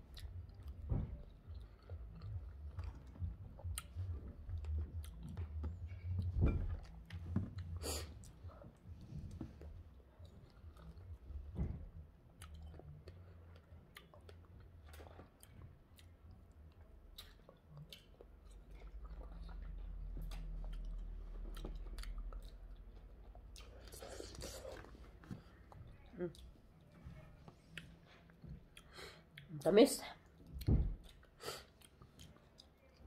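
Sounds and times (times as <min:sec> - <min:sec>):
person chewing strawberries: 0:00.0 - 0:11.4, 0:12.1 - 0:29.6, 0:30.2 - 0:33.0.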